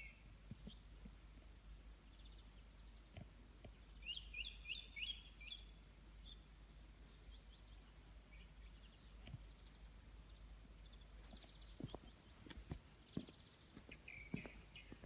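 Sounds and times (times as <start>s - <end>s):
high chirping birdsong: 0.0s - 1.0s, 2.0s - 15.0s.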